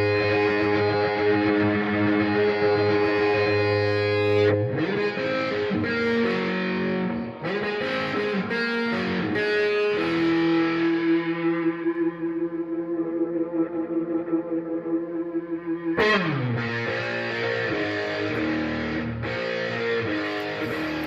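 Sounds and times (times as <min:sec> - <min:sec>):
distorted electric guitar: 0:00.0 - 0:21.0.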